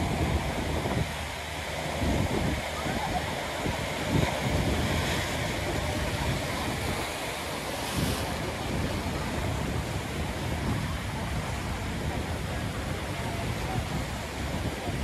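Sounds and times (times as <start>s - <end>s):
surf breaking over rocks: 0.0s - 15.0s.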